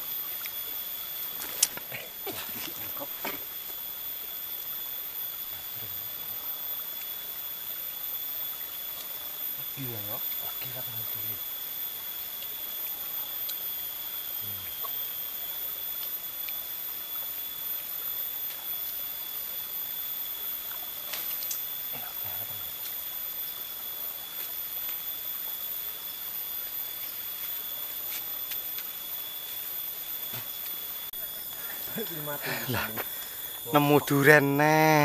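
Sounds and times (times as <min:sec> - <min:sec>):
continuous hiss: 0:00.0 - 0:35.0
high-pitched whine: 0:00.0 - 0:35.0.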